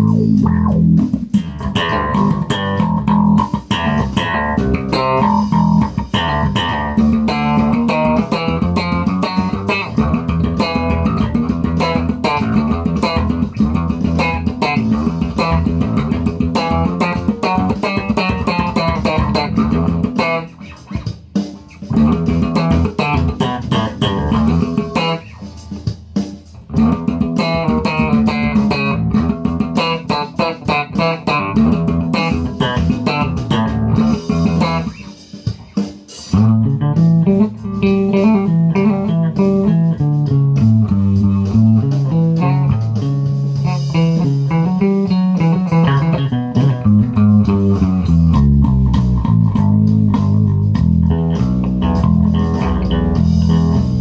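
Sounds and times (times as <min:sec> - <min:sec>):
slap bass playing funk: 0:00.0 - 0:54.0.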